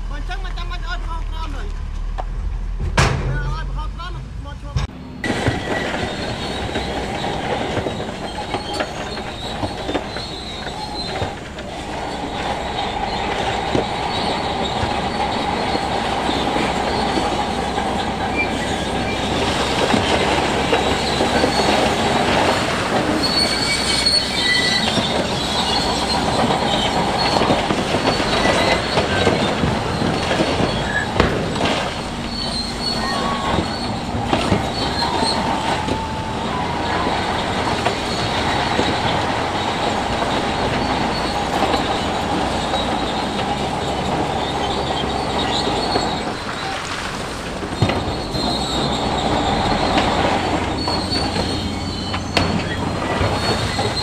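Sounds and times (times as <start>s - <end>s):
bulldozer engine running: 0.0s - 54.0s
steel tracks squealing and clanking: 0.0s - 54.0s.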